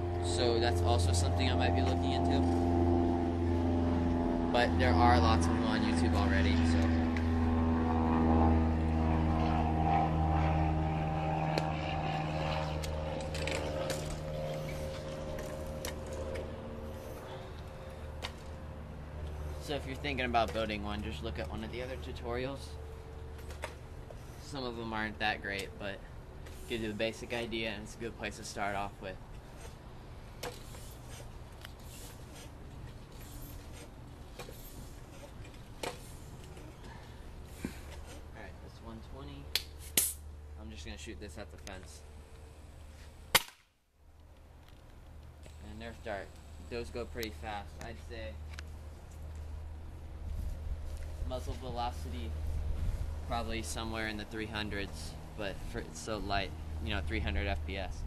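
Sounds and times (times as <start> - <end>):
steady low rumble: 0.0 - 43.4, 44.4 - 58.0
engine humming low: 0.0 - 58.0.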